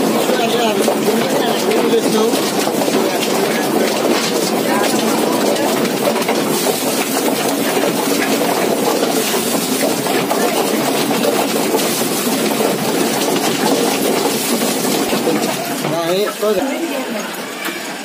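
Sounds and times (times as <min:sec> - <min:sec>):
chicken plucker machine running: 0:00.0 - 0:18.0.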